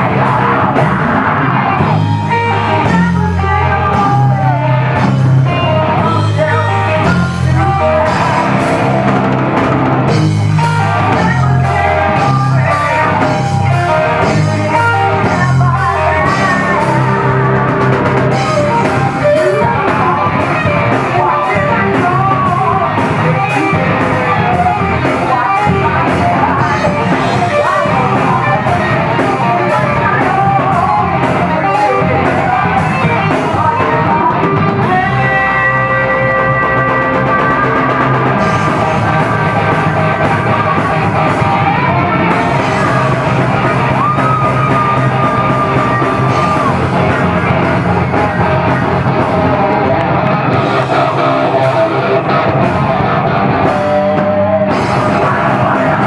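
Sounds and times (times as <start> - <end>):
bass guitar: 0.0 - 56.0
drum kit: 0.0 - 56.0
electric guitars: 0.0 - 56.0
person singing: 0.0 - 56.0.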